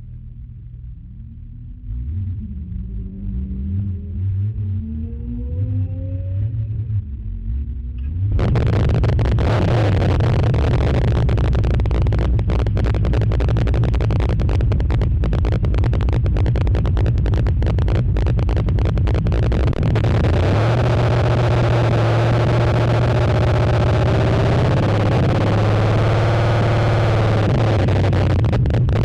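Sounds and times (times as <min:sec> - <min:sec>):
distorted loud engine running: 0:00.0 - 0:29.0.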